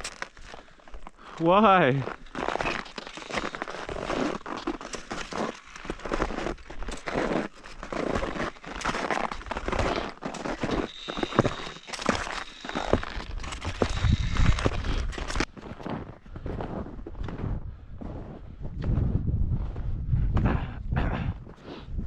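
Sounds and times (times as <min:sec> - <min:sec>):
ski steps crunching on icy snow: 0:00.0 - 0:18.4.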